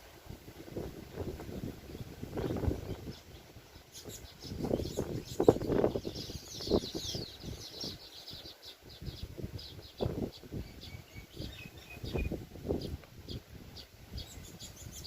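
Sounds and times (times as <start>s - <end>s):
birds chirping and chattering: 1.3s - 15.0s.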